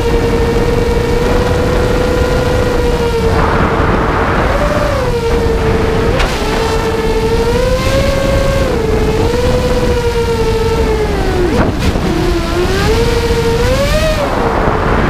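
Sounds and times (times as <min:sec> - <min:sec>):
low rumble: 0:00.0 - 0:15.0
quadcopter motors whining: 0:00.0 - 0:15.0.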